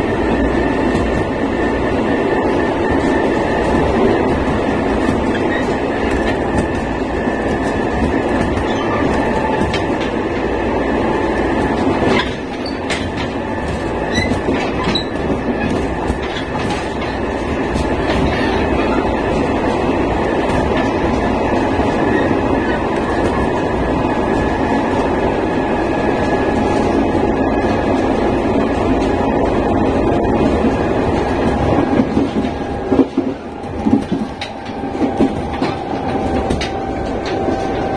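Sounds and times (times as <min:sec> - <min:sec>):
wheels clacking over rail joints: 0:00.0 - 0:25.2, 0:26.2 - 0:37.9
train rolling noise: 0:00.0 - 0:37.9.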